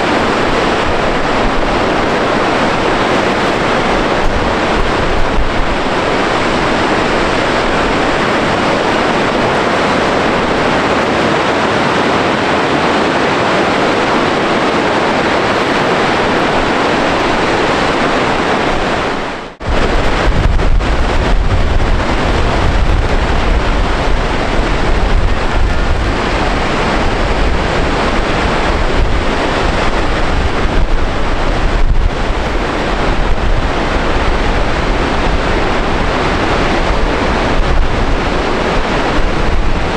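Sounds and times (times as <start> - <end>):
waterfall roaring: 0.0 - 39.9
wind buffeting microphone: 0.0 - 39.9.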